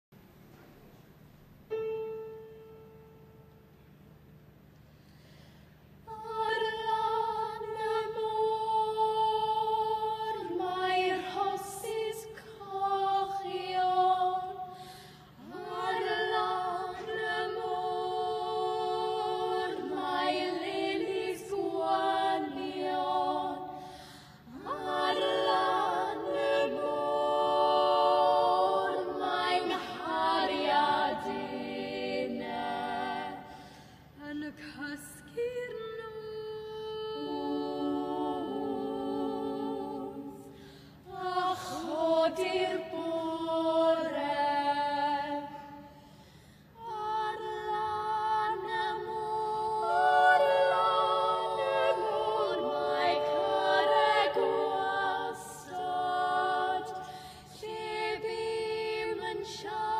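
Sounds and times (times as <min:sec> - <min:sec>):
girls singing in harmony: 0:06.1 - 0:46.2, 0:46.8 - 0:59.9.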